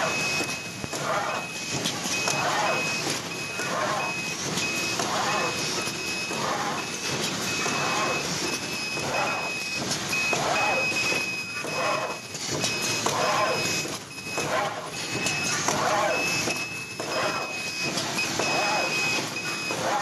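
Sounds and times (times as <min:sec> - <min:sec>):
sewing machine running: 0:01.1 - 0:20.0
high electronic tone: 0:01.2 - 0:19.8.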